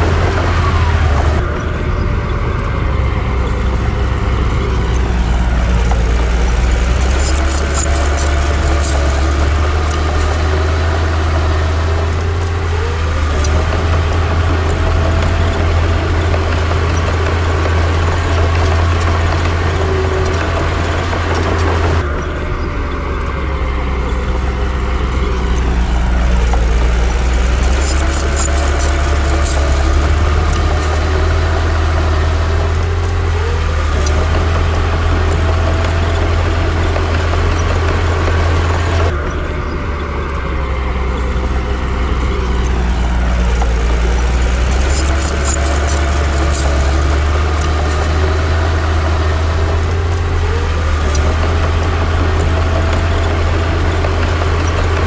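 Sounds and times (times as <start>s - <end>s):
bulldozer diesel engine drone: 0.0s - 55.0s
light metallic clinks: 1.5s - 39.6s, 40.2s - 55.0s.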